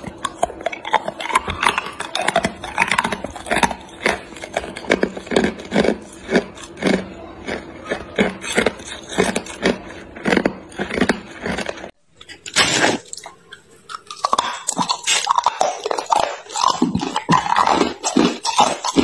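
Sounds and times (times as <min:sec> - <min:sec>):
ice crunching between teeth: 0:00.0 - 0:19.0.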